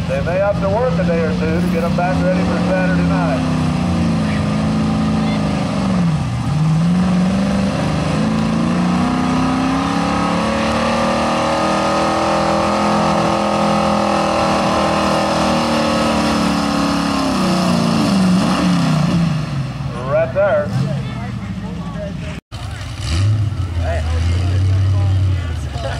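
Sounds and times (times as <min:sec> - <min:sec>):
truck engine at full throttle: 0:00.0 - 0:25.9.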